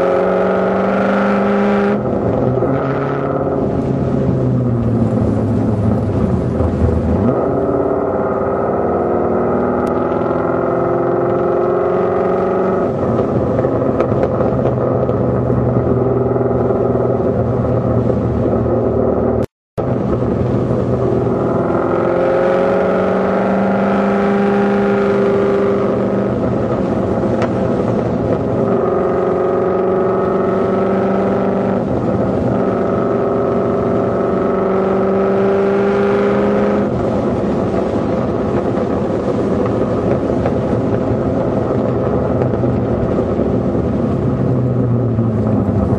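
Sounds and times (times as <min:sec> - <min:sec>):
car engine and exhaust droning: 0:00.0 - 0:45.9.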